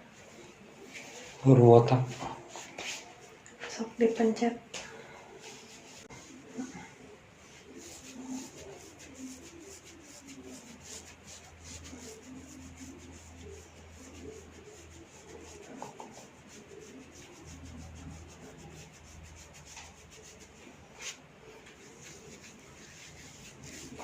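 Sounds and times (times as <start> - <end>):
hands rubbing hair on scalp: 2.1 - 3.4, 5.4 - 24.0.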